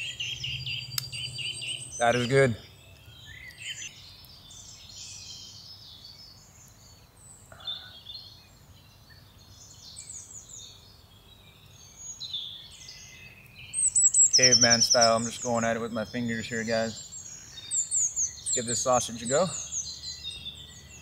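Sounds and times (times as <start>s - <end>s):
songbirds chirping: 0.0s - 21.0s
faint background hiss: 1.0s - 21.0s.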